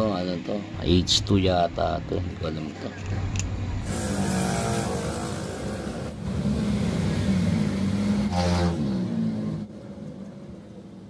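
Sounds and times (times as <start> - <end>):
vehicles passing on highway: 0.6 - 11.0.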